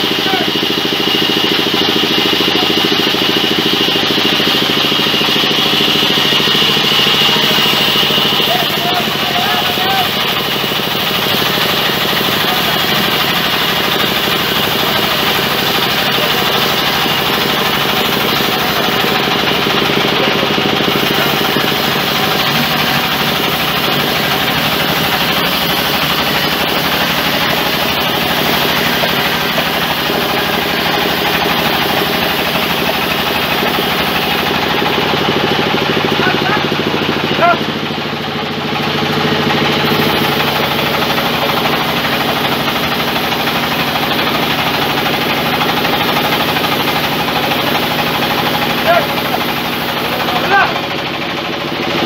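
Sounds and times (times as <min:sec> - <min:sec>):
band saw cutting log: 0:00.0 - 0:52.0.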